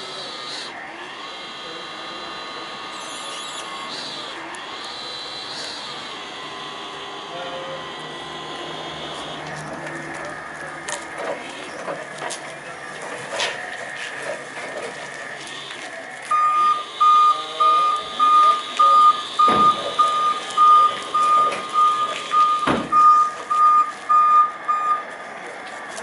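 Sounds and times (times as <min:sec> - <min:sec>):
forklift reversing alarm beeping: 0:00.0 - 0:10.8, 0:13.1 - 0:25.2.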